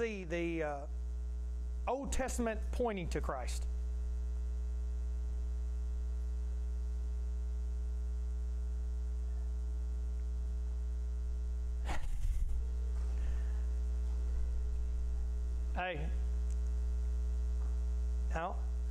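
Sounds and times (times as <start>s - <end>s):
electrical mains hum: 0.0s - 18.9s.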